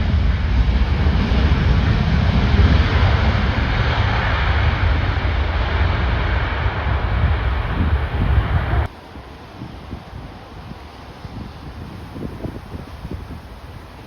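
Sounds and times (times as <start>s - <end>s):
jet airliner engine noise: 0.0s - 14.0s
wind buffeting microphone: 0.0s - 14.0s.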